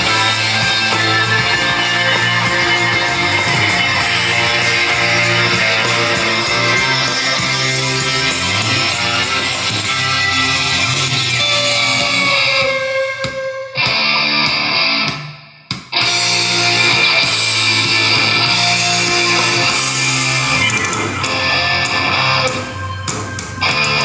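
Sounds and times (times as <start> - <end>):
rock song with electric guitar: 0.0 - 24.0.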